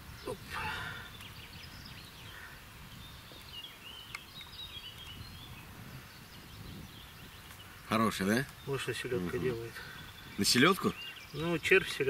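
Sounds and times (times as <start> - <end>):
songbird warbling: 0.0 - 12.0.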